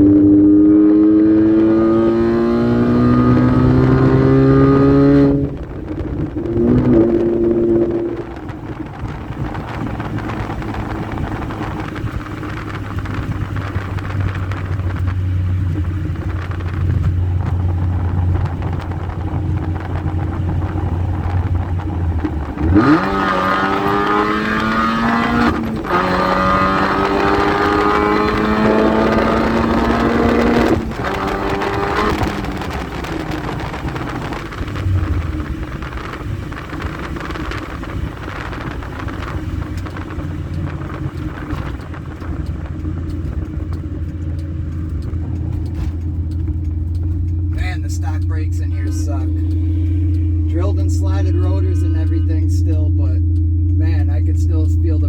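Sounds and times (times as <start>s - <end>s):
supercharged car engine revving: 0.0s - 55.0s.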